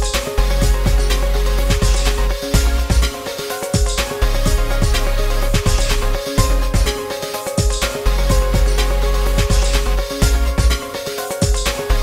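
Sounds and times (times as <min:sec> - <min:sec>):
music with beat and deep bass: 0:00.0 - 0:12.0.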